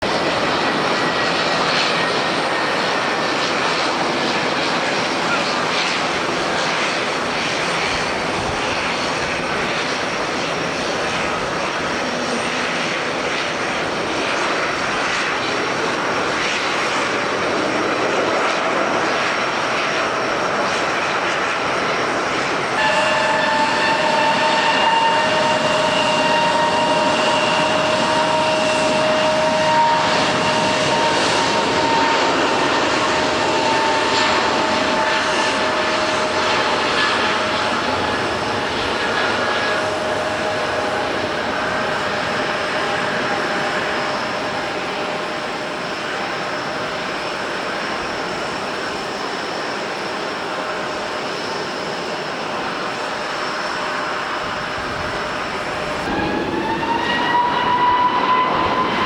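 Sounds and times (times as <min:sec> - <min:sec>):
jet engine: 0:00.0 - 0:59.0
jet engine whine with held tones: 0:00.0 - 0:59.0.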